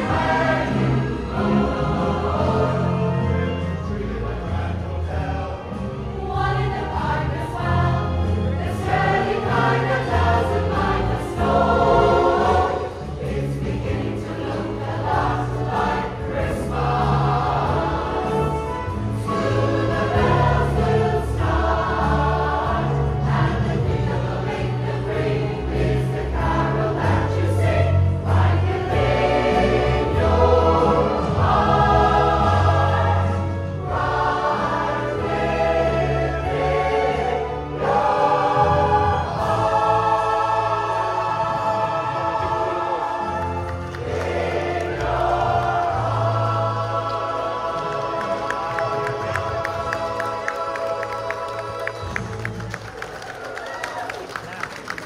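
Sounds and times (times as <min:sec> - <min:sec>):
amplified backing music with bass: 0:00.0 - 0:50.1
choir singing: 0:00.0 - 0:52.8.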